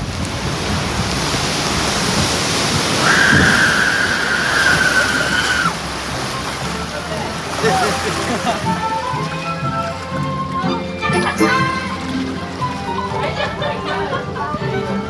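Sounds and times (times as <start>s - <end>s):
water churning and splashing: 0.0s - 15.0s.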